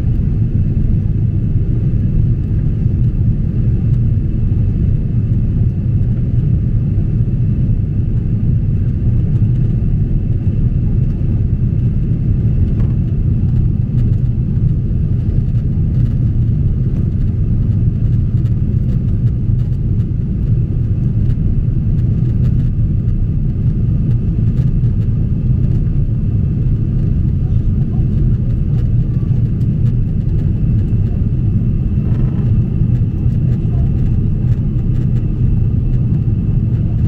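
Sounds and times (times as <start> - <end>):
airliner cabin engine rumble: 0.0 - 37.0
faint steady whine: 0.0 - 37.0.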